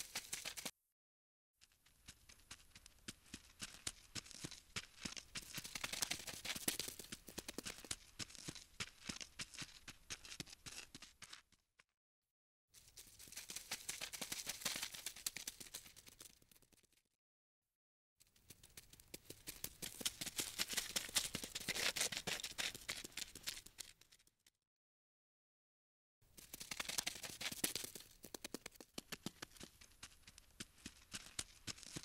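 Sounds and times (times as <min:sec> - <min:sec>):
rapid tiny clicks and scratches: 0:00.0 - 0:00.7, 0:01.6 - 0:11.5, 0:13.0 - 0:17.0, 0:18.2 - 0:24.3, 0:26.3 - 0:32.0.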